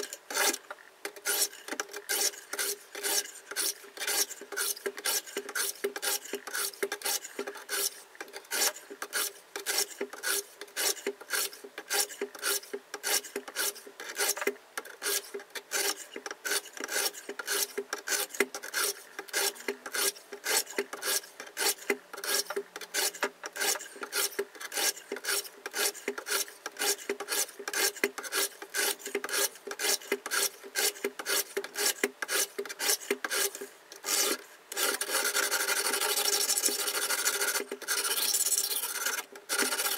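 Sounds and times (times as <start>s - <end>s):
sharpening plates rasping on blade: 1.2s - 14.4s, 15.0s - 39.9s.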